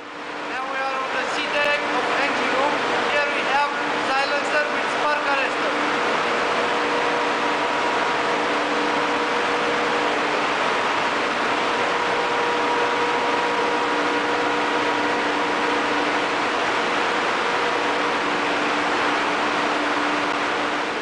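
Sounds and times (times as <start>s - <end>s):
engine room machinery roar: 0.0s - 21.0s.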